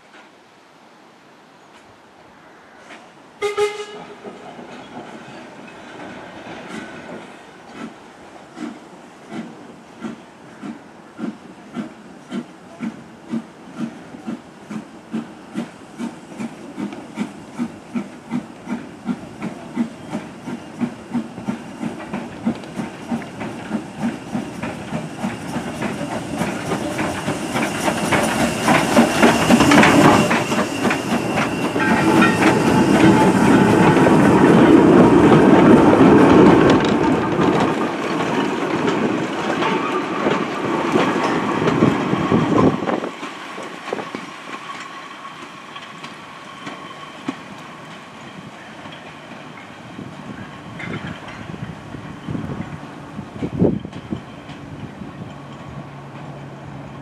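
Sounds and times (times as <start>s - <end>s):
steam hissing: 4.6s - 53.7s
steam locomotive exhaust beats: 6.6s - 56.3s.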